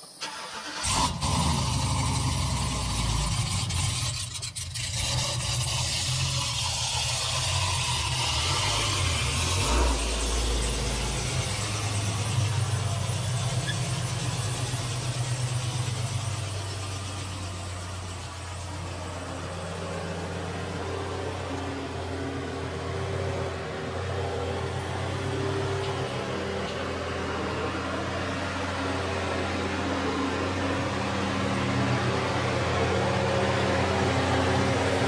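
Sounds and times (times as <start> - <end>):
car engine idling: 0.2 - 35.0
low engine rumble: 0.2 - 35.0.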